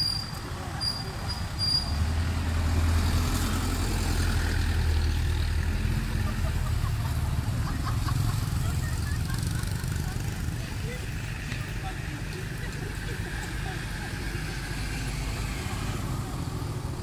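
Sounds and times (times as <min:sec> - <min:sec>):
traffic driving past: 0:00.0 - 0:17.0.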